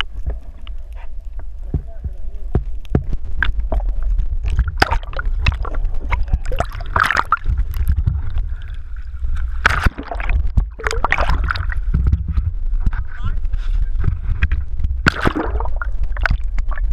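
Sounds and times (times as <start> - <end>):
muffled water sloshing and gurgling: 0.0 - 16.9
steady low rumble: 0.0 - 16.9.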